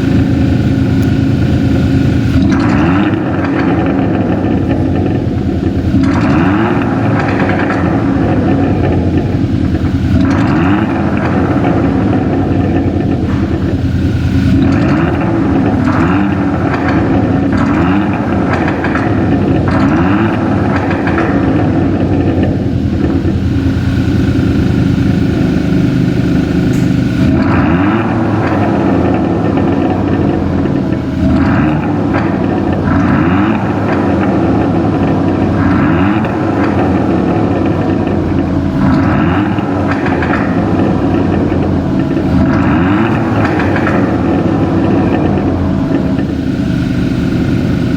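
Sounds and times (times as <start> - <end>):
car exhaust revving: 0.0 - 47.9.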